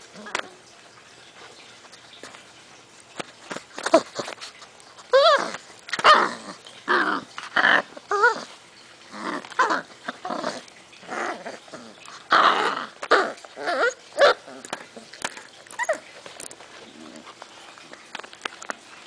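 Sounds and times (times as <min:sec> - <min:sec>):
puppies growling and yipping: 0:03.5 - 0:19.0.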